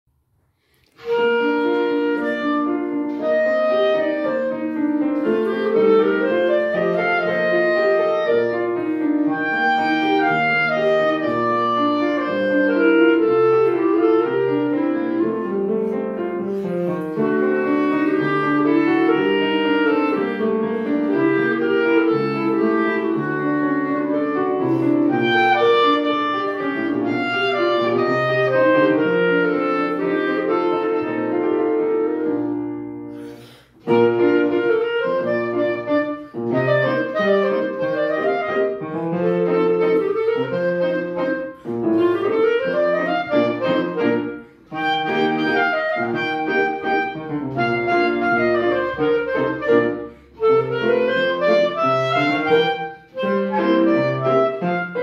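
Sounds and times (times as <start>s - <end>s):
piano accompaniment: 0.3s - 55.0s
clarinet melody: 0.7s - 55.0s.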